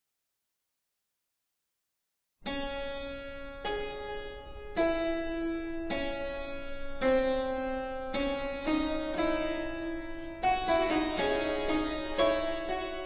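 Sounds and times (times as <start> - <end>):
harpsichord-like plucked notes: 2.5 - 13.0.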